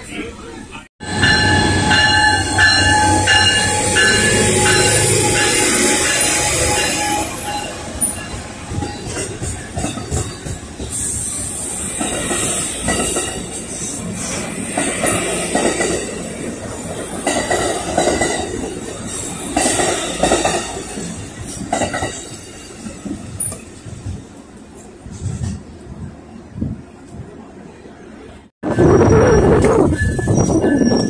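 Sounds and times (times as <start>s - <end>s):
train rumble: 0.0s - 31.0s
wheels whining on rails: 1.0s - 31.0s.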